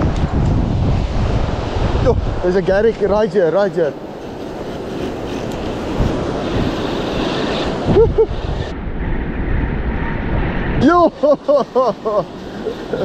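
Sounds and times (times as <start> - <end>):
surf washing in: 0.0 - 13.0
wind buffeting microphone: 0.0 - 13.0.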